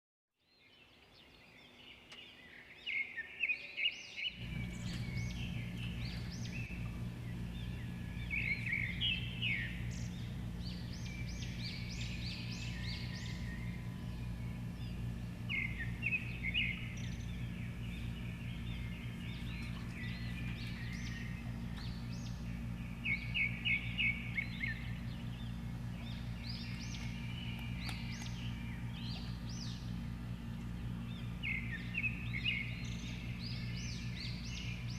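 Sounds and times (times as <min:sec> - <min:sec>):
small birds chirping: 0:00.4 - 0:34.9
steady low hum: 0:04.3 - 0:34.9.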